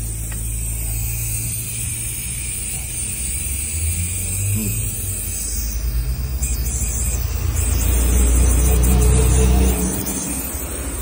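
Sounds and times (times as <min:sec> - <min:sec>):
heavy truck engine running: 0:00.0 - 0:11.0.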